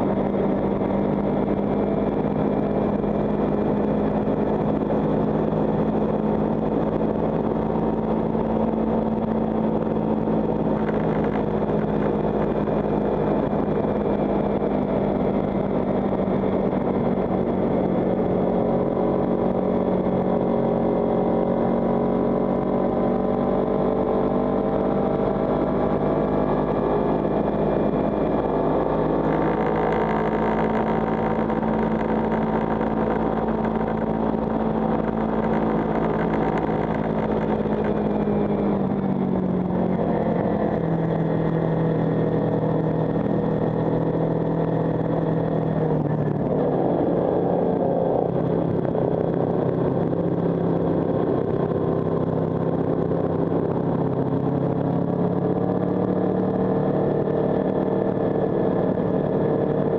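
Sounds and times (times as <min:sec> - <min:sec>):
motorcycle engine running under load: 0:00.0 - 0:59.9.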